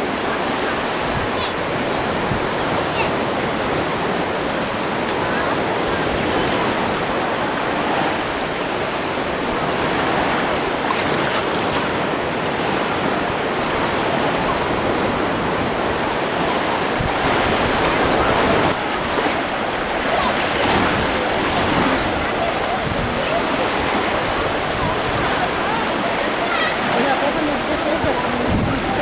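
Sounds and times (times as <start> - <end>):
small waves washing in: 0.0 - 29.0.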